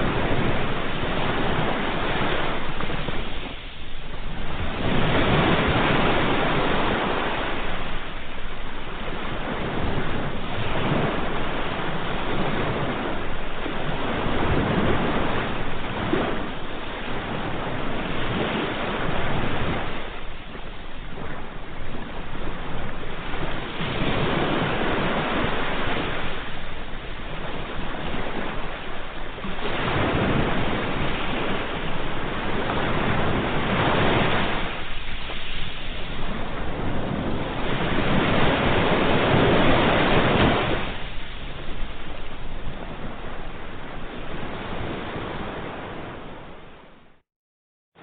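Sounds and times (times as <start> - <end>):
sea waves breaking on shore: 0.0 - 47.2.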